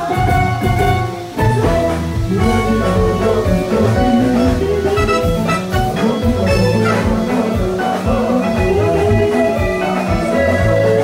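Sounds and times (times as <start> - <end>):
instrumental music with drums: 0.0 - 11.0.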